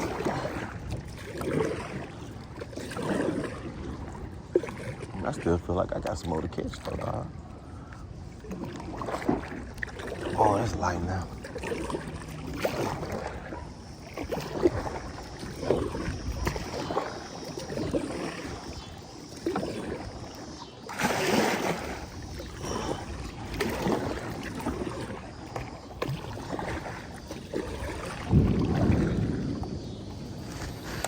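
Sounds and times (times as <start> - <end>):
paddle splashing water: 0.0 - 31.0.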